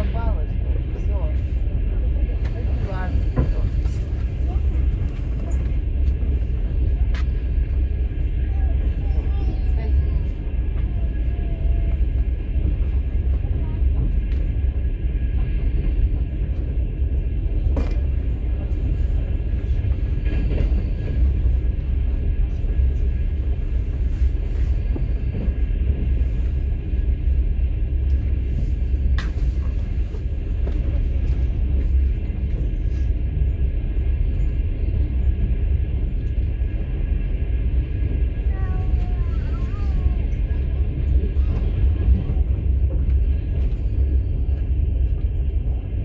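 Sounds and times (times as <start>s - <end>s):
train rumble from inside carriage: 0.0s - 46.0s.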